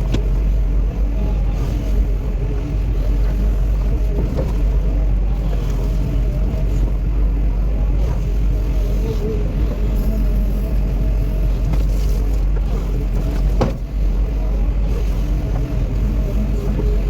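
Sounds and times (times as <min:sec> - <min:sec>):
engine rumbling steadily: 0:00.0 - 0:17.0.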